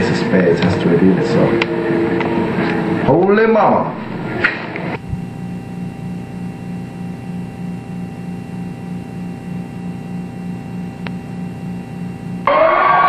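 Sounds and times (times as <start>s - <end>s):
electrical hum with pulsing drone: 0.0s - 13.0s.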